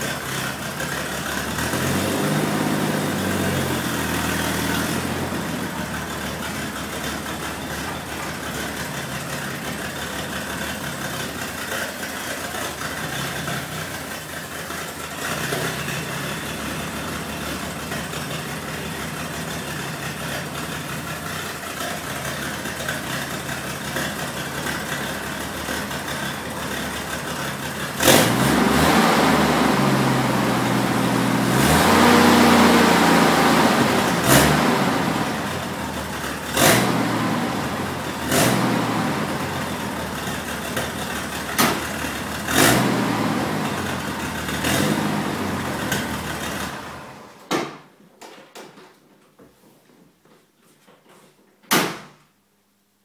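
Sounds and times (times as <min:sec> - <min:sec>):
car engine idling and revving: 0:00.0 - 0:47.4.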